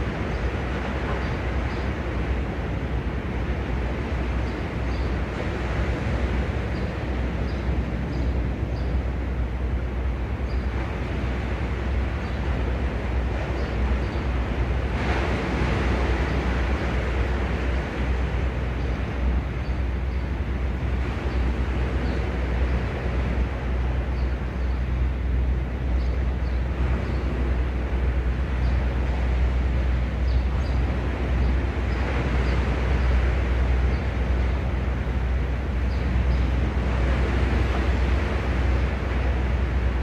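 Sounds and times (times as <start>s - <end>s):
sea waves washing onto shore: 0.0s - 40.0s
wind rumble on microphone: 0.0s - 40.0s.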